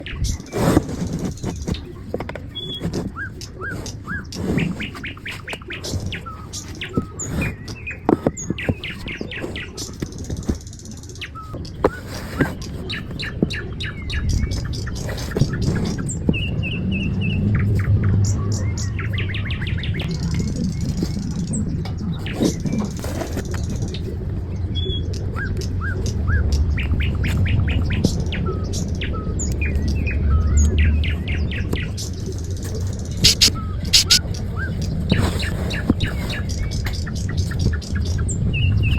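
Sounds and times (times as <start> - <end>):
birds chirping: 0.0 - 17.9, 18.6 - 38.9.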